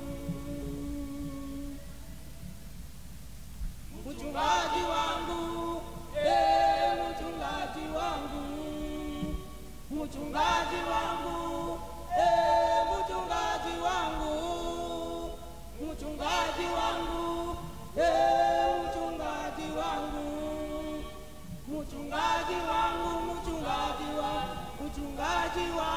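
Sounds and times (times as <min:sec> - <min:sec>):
group singing worship song: 0:00.0 - 0:02.9, 0:03.6 - 0:25.9.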